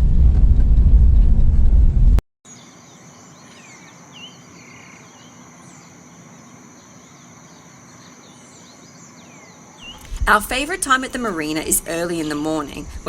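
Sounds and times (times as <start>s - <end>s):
high insect drone: 2.5s - 13.0s
small birds chirping: 2.5s - 13.0s.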